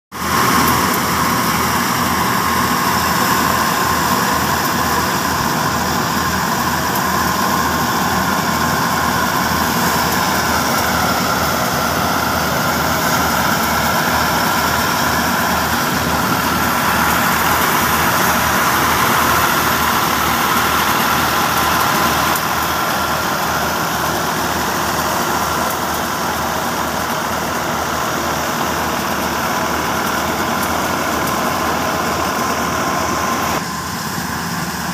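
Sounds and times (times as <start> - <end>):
tractor diesel engine running: 0.1 - 34.9
thresher whine: 0.2 - 34.9.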